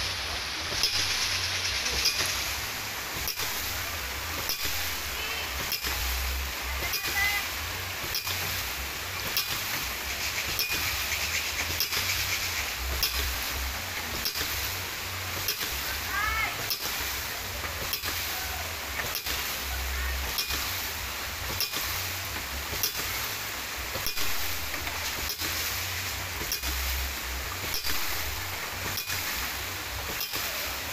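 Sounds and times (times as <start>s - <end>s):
water splashing: 0.0s - 30.9s
pump valve knocking: 2.0s - 19.6s, 23.8s - 30.9s.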